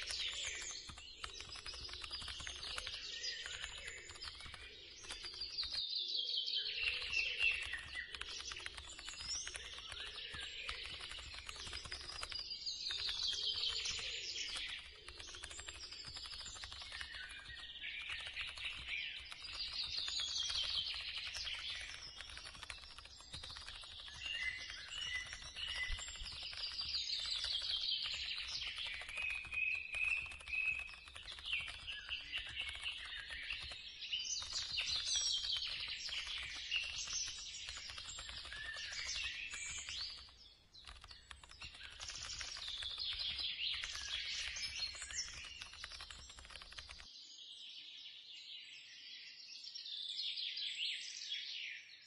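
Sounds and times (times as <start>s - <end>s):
birds chirping and trilling: 0.0s - 52.0s.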